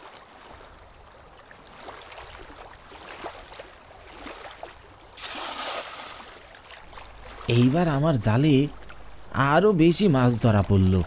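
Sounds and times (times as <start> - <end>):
oars splashing: 0.0 - 11.0
river water lapping and gurgling: 0.0 - 11.0.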